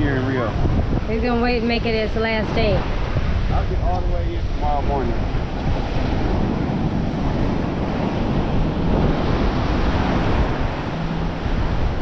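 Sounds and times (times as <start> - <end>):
ocean waves washing onto beach: 0.0 - 12.0
wind buffeting microphone: 0.0 - 12.0.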